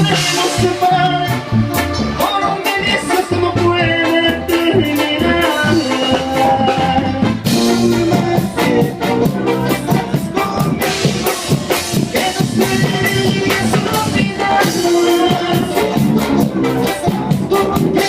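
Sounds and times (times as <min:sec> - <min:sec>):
band playing instrumental: 0:00.0 - 0:18.0
drum kit: 0:00.0 - 0:18.0
guitar: 0:00.0 - 0:18.0
keyboard: 0:00.0 - 0:18.0.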